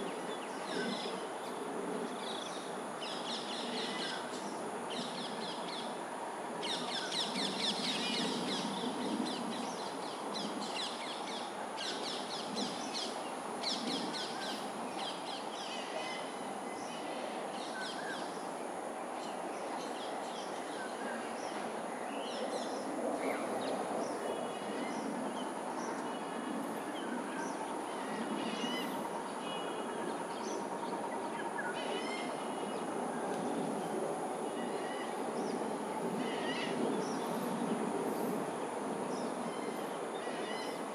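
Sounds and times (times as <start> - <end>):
constant high hiss: 0.0 - 40.9.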